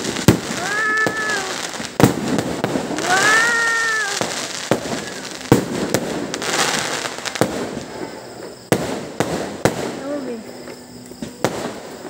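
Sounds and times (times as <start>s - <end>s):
crackling hiss of fireworks: 0.0s - 12.0s
fireworks bangs: 0.0s - 12.0s.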